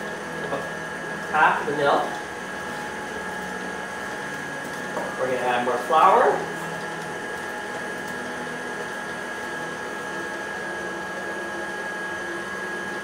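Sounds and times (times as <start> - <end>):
stand mixer motor hum: 0.0 - 13.0.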